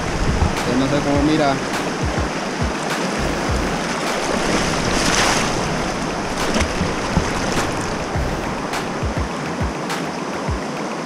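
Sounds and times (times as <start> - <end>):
wind buffeting microphone: 0.0 - 9.4
rushing river rapids: 0.0 - 11.0.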